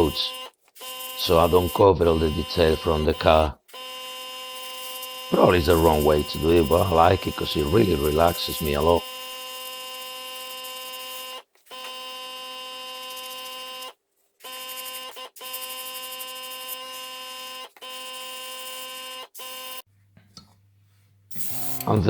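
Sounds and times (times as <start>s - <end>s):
airbrush compressor humming: 0.0s - 19.8s, 21.3s - 22.0s.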